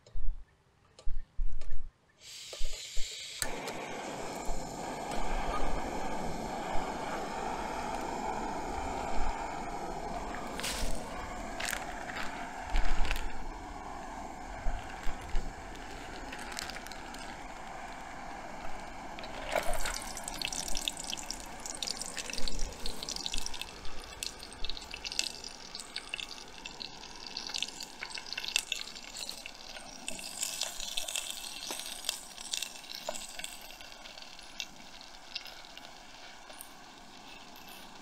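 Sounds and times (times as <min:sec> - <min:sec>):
food sizzling in hot oil: 0:02.2 - 0:38.0.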